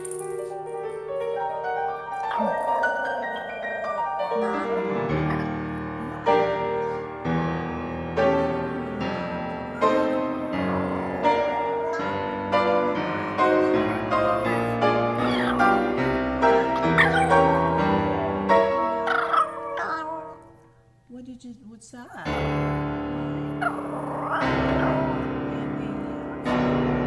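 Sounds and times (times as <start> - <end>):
piano music: 0.0 - 21.0, 22.3 - 27.0.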